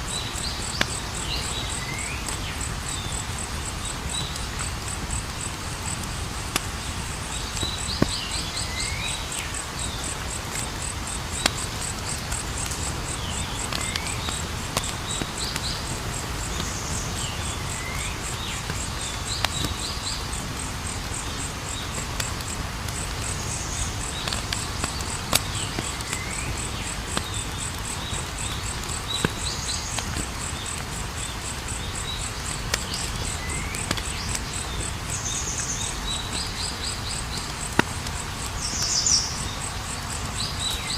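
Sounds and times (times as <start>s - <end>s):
campfire crackling and popping: 0.0s - 40.9s
insects chirping: 0.0s - 40.9s.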